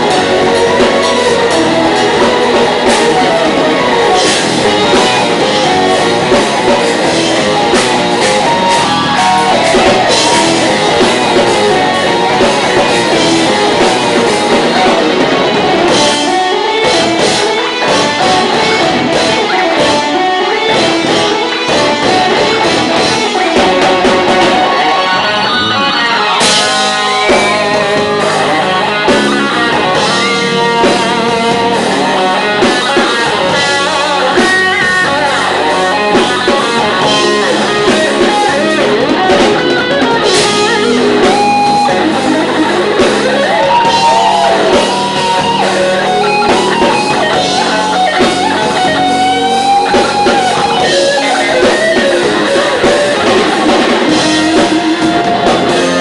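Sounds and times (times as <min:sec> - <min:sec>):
electric guitar bent notes: 0:00.0 - 0:56.0
live rock band playing: 0:00.0 - 0:56.0.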